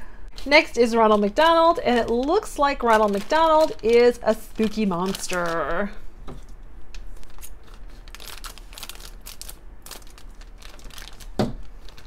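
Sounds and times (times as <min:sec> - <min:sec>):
plastic bag crinkling: 0:00.4 - 0:06.0, 0:06.9 - 0:12.0.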